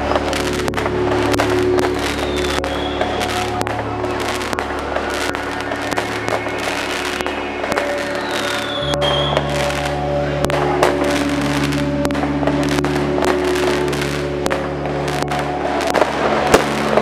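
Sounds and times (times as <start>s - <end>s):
background music: 0.0s - 17.0s
fireworks bursting and crackling: 0.0s - 17.0s.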